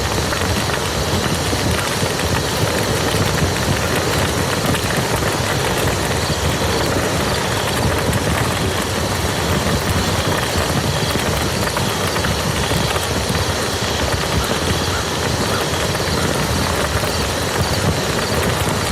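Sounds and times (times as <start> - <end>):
steady rain on a muddy field: 0.0 - 18.9.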